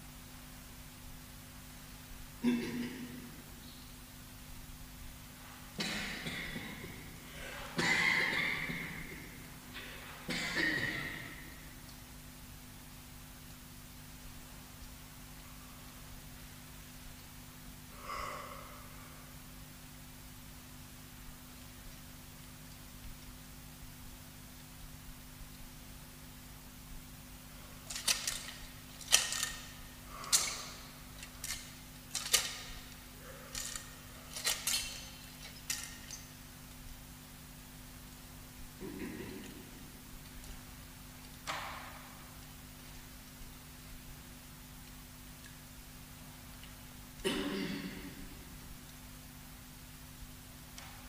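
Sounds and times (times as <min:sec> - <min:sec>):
faint steady hum: 0:00.0 - 0:51.0
steady hiss: 0:00.0 - 0:51.0.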